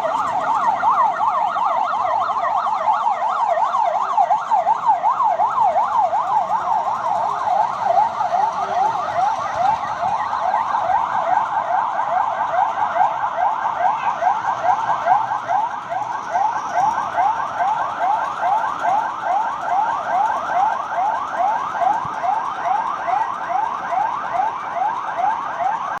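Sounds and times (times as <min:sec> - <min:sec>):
electronic alarm siren warbling: 0:00.0 - 0:26.0.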